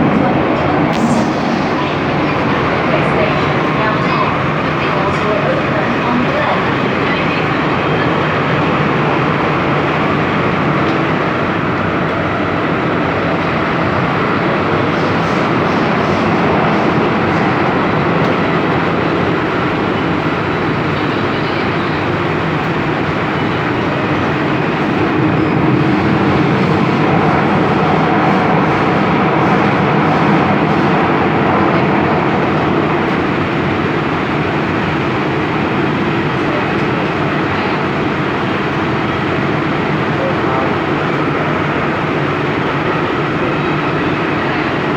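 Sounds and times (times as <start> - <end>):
metro train wheels rumbling: 0.0 - 44.9.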